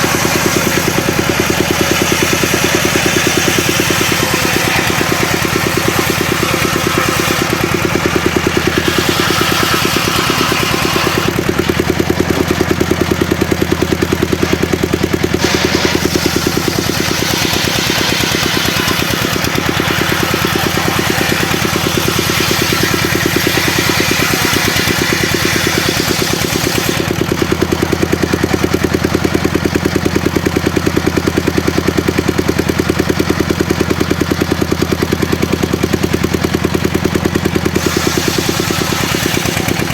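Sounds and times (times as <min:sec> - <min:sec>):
saw hissing through timber: 0:00.0 - 0:29.4, 0:37.0 - 0:39.9
sawmill engine running: 0:00.0 - 0:39.9.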